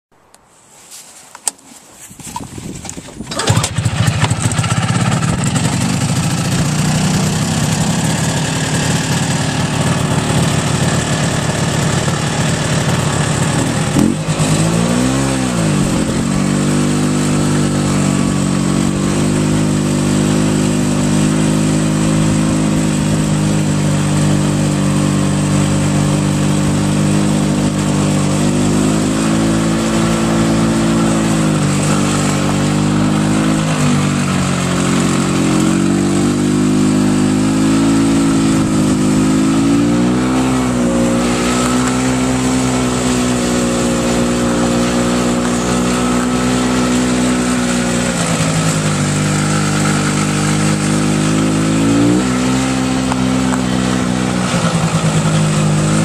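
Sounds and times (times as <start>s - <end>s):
snowmobile engine pull-started: 2.0s - 56.0s
two-stroke engine running and revving: 2.7s - 56.0s.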